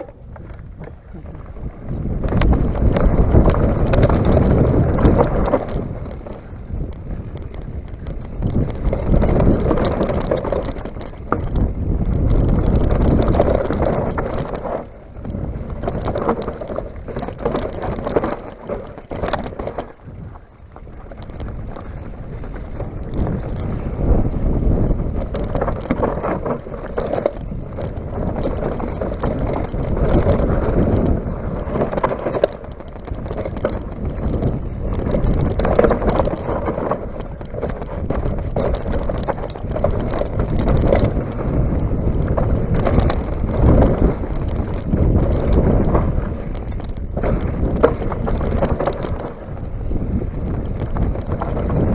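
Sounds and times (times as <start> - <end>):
bike knocking over bumps: 0.0 - 51.9
bike rattling: 0.0 - 51.9
tyres running over dirt: 0.0 - 51.9
wind rushing over microphone: 0.0 - 51.9.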